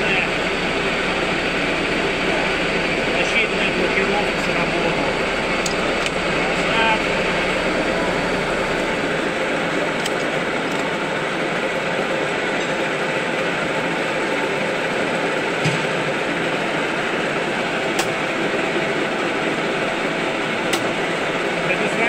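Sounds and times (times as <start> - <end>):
lathe whirring: 0.0 - 22.0.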